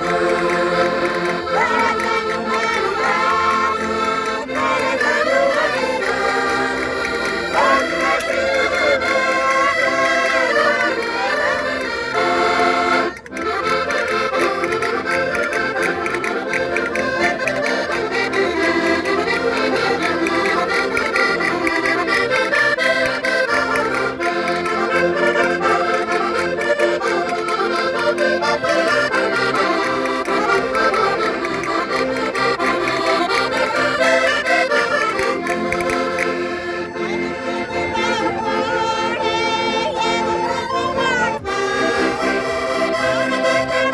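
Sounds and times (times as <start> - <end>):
button accordions playing folk tune: 0.0 - 43.9.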